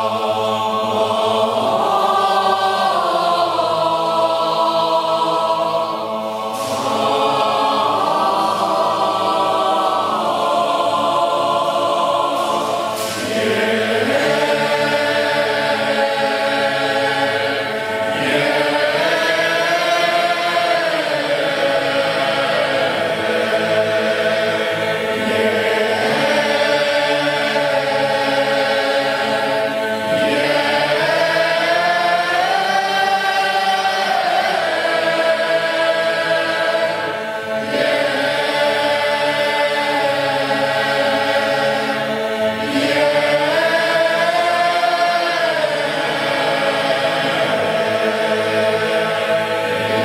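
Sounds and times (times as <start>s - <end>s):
boys' choir singing chords: 0.0s - 50.0s.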